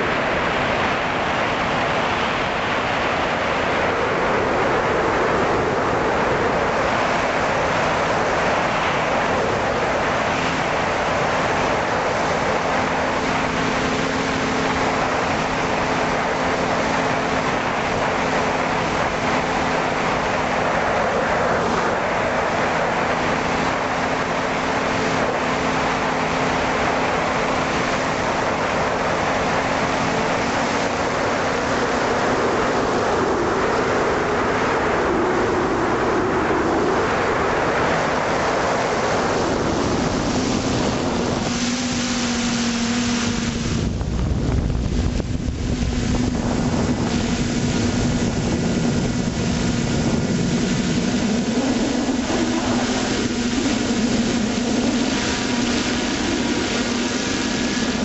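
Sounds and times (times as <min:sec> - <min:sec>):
drone motors and propellers humming: 0:00.0 - 0:58.0
wind rushing over microphone: 0:00.0 - 0:58.0.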